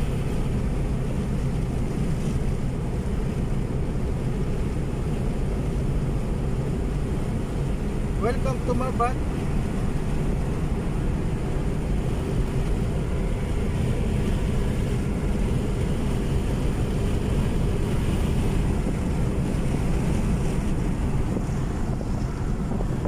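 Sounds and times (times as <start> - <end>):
vehicle road and engine noise: 0.0 - 23.0
wind rushing over microphone: 0.0 - 23.0.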